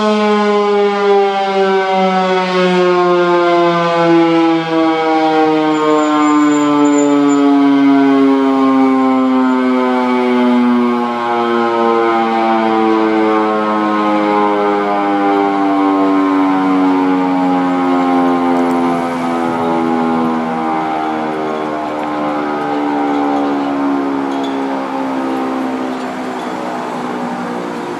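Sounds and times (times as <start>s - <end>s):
warning siren wailing: 0.0s - 27.9s.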